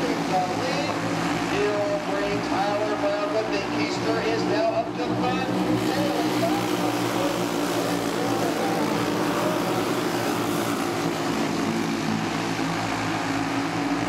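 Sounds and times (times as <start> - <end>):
racing kart engines droning: 0.0 - 14.0.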